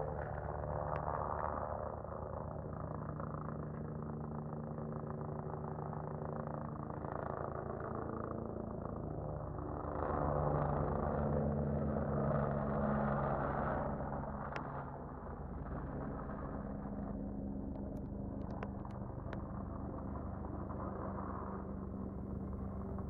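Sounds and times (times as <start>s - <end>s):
helicopter rotor drone: 0.0s - 23.0s.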